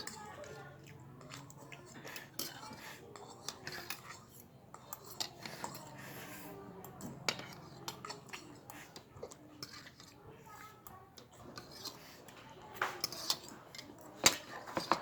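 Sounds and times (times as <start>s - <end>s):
cutlery clinking against a bowl: 0.0s - 15.0s
faint voices: 0.0s - 15.0s.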